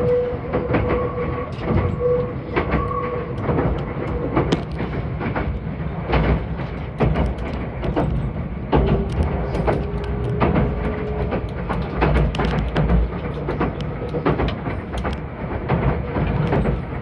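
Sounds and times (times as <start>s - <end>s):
train wheels rumbling on rails: 0.0s - 17.0s
clicks and knocks: 1.6s - 16.9s.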